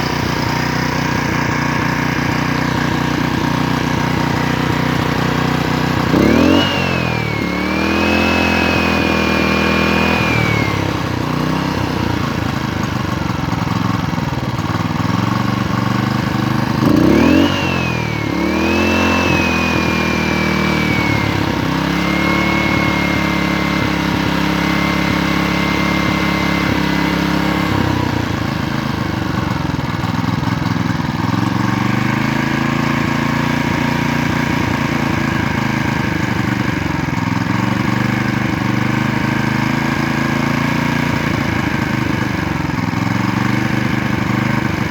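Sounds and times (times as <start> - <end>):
engine throttle blips: 0.0 - 44.9
small pump engine running: 0.0 - 44.9.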